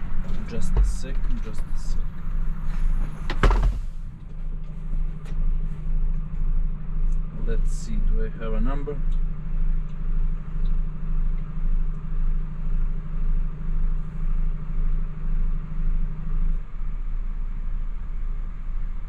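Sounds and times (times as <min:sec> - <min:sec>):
steady hum: 0:00.0 - 0:19.0
truck diesel engine rumble: 0:00.0 - 0:19.0.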